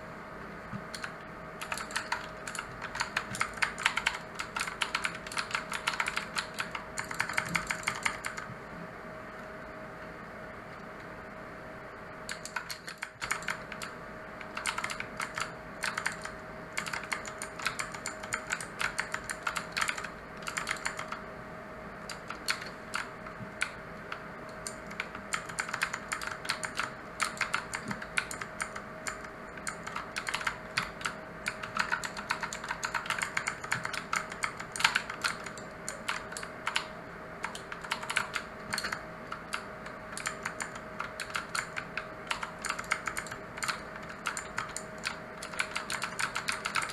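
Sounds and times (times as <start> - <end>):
faint hum: 0.0 - 46.9
clicky mechanical keyboard typing: 0.9 - 8.5, 12.3 - 21.2, 22.1 - 46.9.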